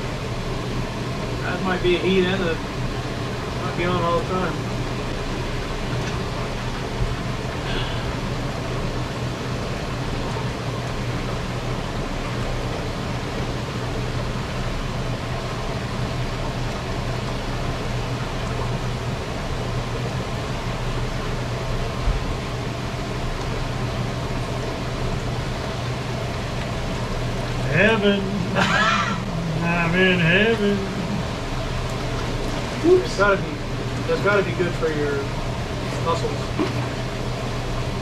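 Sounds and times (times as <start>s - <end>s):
motor hum: 0.0s - 38.0s
water churning in tub: 0.0s - 38.0s.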